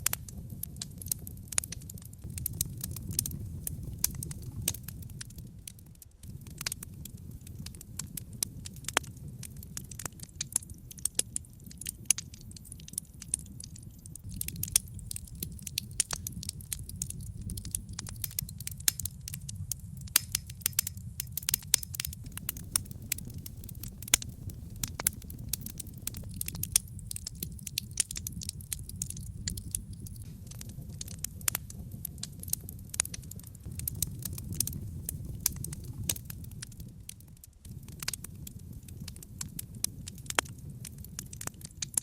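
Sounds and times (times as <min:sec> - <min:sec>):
fire crackling and popping: 0:00.0 - 0:42.0
fire low rumble: 0:00.0 - 0:42.0.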